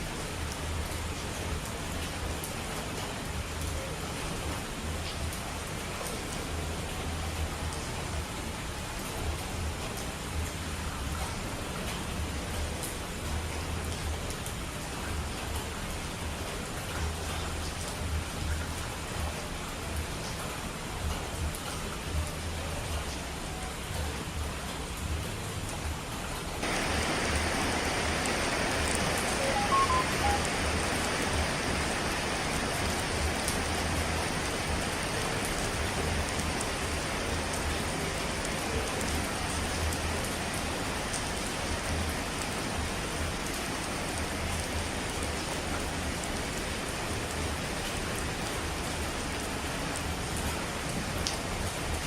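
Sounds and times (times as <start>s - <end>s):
heavy rain: 0.0s - 52.0s.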